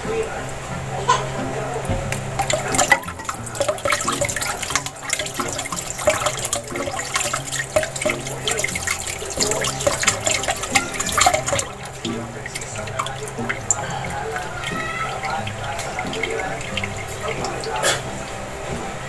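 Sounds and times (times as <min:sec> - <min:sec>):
wet mixture stirred in a bowl: 0:01.2 - 0:19.0.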